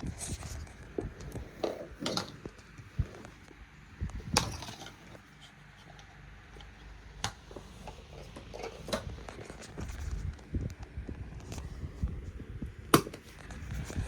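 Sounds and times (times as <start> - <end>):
desk fan whirring: 0.0 - 14.0.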